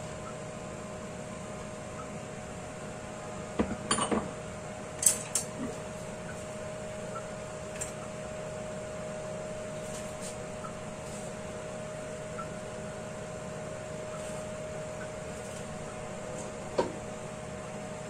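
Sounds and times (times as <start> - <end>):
range hood fan humming: 0.0 - 18.0.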